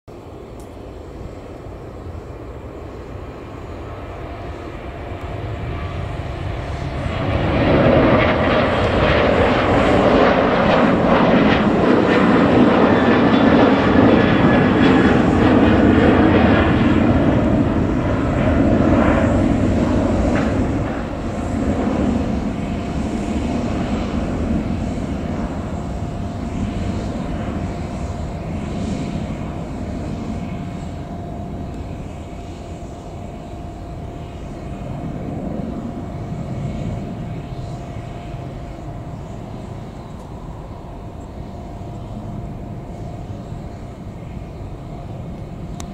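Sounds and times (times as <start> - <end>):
jet engines roaring at takeoff: 0.1 - 45.9.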